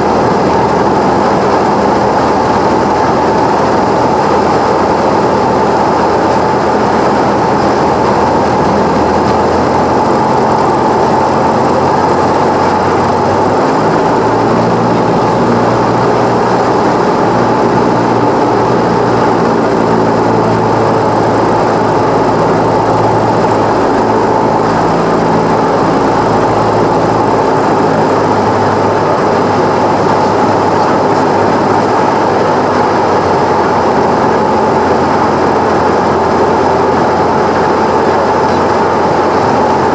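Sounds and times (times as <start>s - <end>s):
airplane piston engine and propeller: 0.0s - 39.9s.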